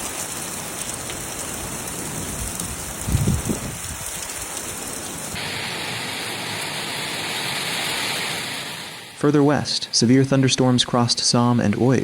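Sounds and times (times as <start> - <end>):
heavy rain pouring: 0.0 - 10.6.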